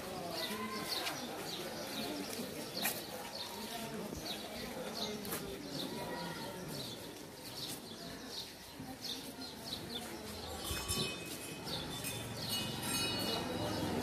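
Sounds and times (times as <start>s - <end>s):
quiet street noise: 0.0s - 14.0s
small birds chirping: 0.0s - 14.0s.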